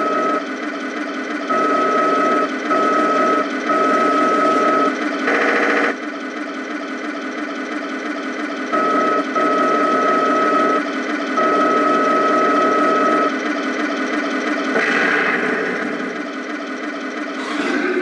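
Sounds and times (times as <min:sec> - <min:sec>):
engine idle through small speaker: 0:00.0 - 0:18.0.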